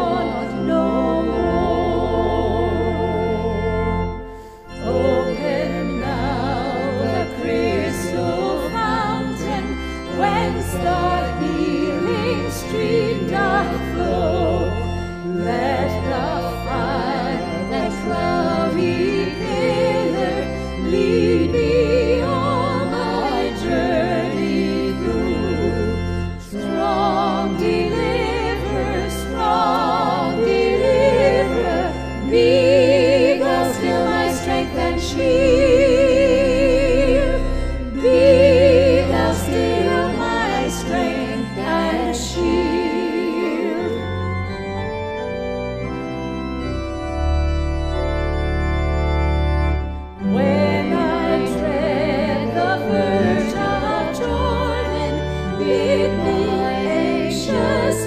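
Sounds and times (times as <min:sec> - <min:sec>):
choir singing a hymn: 0:00.0 - 0:46.8, 0:47.4 - 0:58.0
pipe organ: 0:00.0 - 0:58.0.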